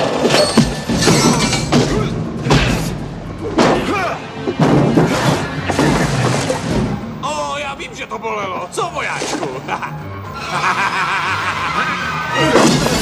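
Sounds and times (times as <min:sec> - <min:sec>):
action movie score: 0:00.0 - 0:13.0.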